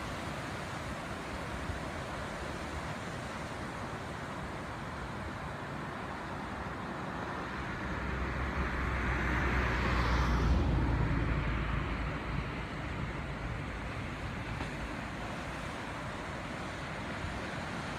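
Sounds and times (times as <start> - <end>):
ocean surf on beach: 0.0 - 17.9.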